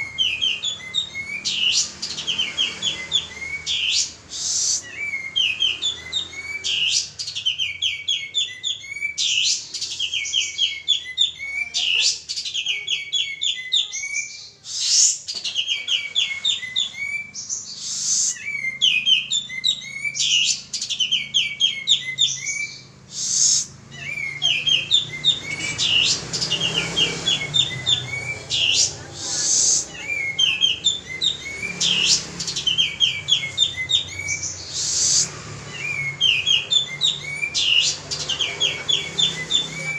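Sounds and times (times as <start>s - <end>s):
songbird trilling: 0.0s - 39.9s.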